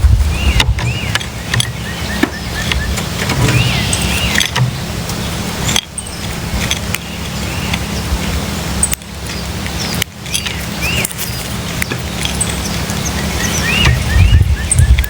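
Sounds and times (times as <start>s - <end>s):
low hum: 0.0s - 15.0s
steady rushing noise: 0.0s - 15.0s
bird chirps: 0.3s - 8.2s, 8.8s - 15.0s.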